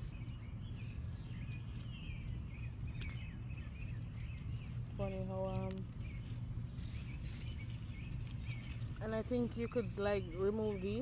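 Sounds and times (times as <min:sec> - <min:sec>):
low background rumble: 0:00.0 - 0:11.0
small birds chirping: 0:00.0 - 0:11.0.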